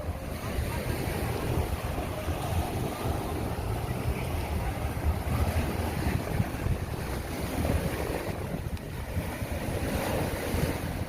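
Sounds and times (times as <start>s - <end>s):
waves breaking on beach: 0.0s - 11.0s
wind buffeting microphone: 0.0s - 11.0s.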